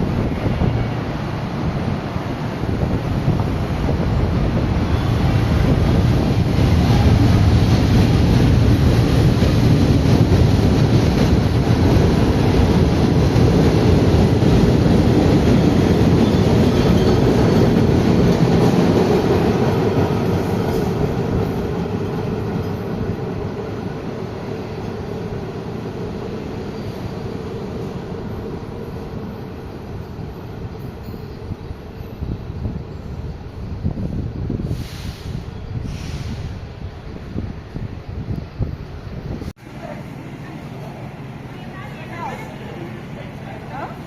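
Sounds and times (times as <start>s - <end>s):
electric train rumbling on rails: 0.0s - 44.0s.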